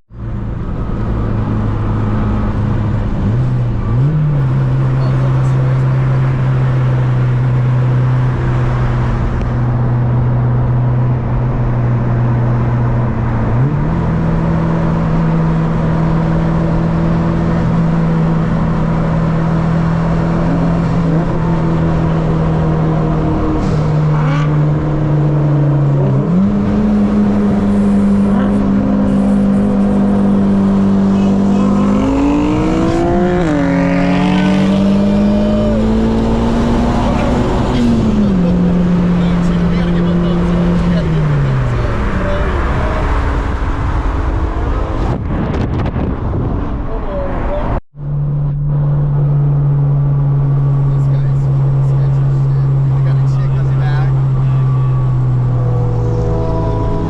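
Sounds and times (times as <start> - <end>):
car engine running: 0.1 - 57.0.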